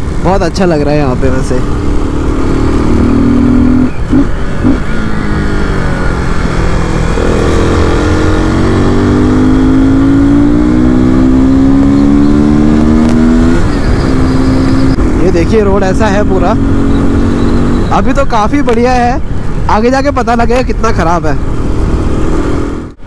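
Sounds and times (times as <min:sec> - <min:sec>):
motorcycle engine accelerating: 0:01.0 - 0:18.1, 0:21.0 - 0:23.0.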